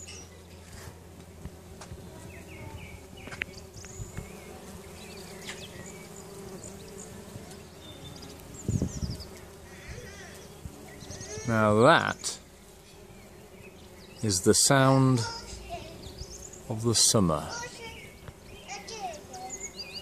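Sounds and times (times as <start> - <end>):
bumblebees buzzing: 0.0 - 20.0.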